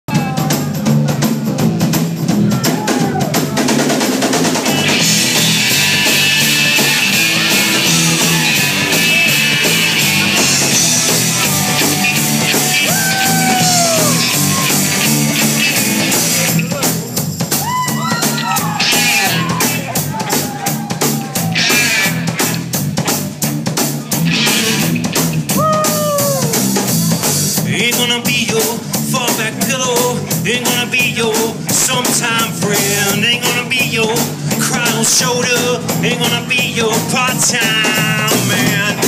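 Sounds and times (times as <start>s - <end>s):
bass line: 0.1s - 39.0s
drum kit beat: 0.1s - 39.0s.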